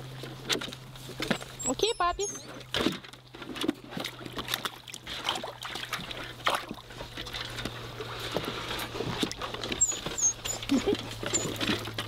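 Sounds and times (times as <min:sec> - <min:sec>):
puppies splashing in water: 0:00.0 - 0:12.0.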